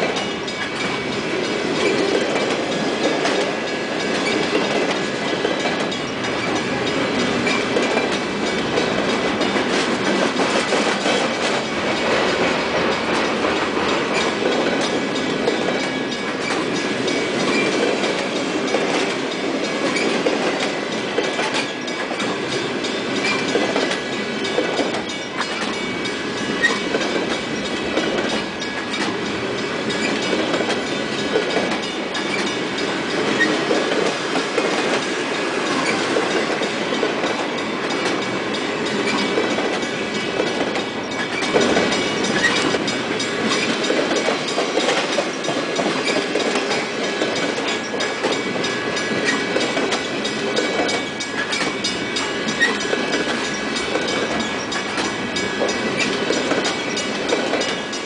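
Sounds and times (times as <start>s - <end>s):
steel wheels rumbling on rail: 0.0s - 58.0s
wheels clacking over rail joints: 0.0s - 58.0s.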